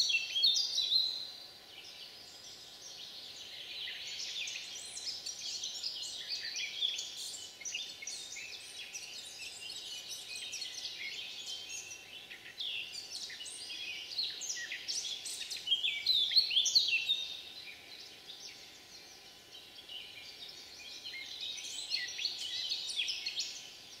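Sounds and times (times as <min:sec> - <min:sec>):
songbirds singing and calling: 0:00.0 - 0:24.0.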